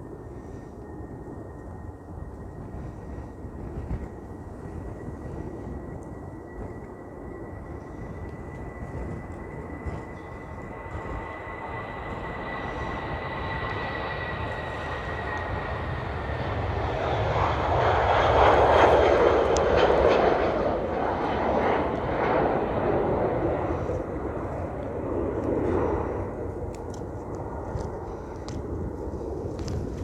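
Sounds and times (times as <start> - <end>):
airliner engine noise: 0.0 - 30.0
airliner high whine: 0.0 - 30.0.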